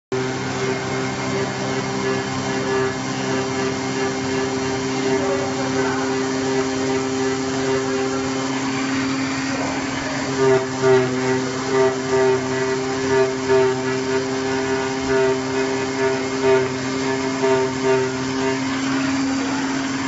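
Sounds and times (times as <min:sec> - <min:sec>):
cutting head whining: 0:00.1 - 0:20.0
cutting machine humming: 0:00.1 - 0:20.0.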